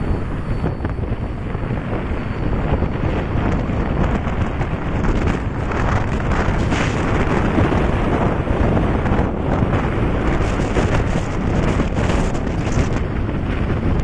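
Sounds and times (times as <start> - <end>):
low road rumble: 0.0 - 14.0
wind buffeting microphone: 0.0 - 14.0.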